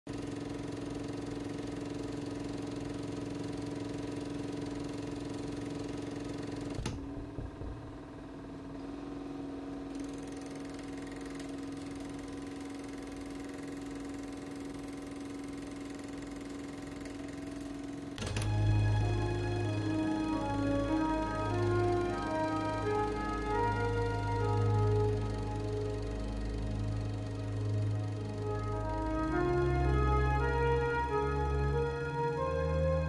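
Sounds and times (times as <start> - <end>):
small machine humming: 0.1 - 33.0.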